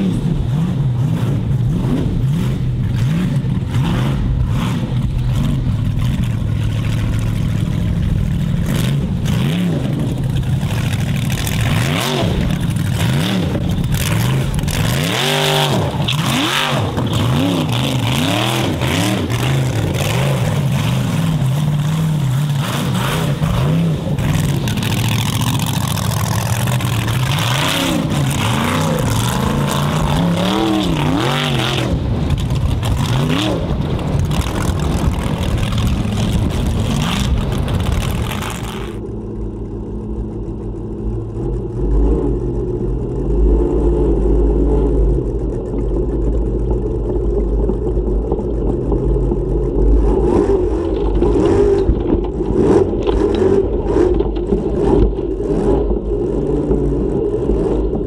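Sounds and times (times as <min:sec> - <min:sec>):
muffled low rumble: 0:00.0 - 0:15.1, 0:15.7 - 0:58.0
race car engine revving: 0:00.0 - 0:58.0.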